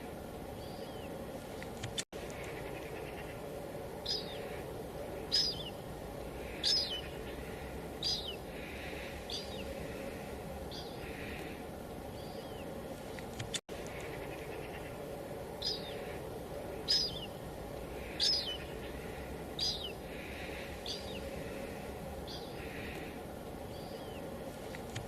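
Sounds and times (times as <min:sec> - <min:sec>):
light drizzle: 0:00.0 - 0:25.0.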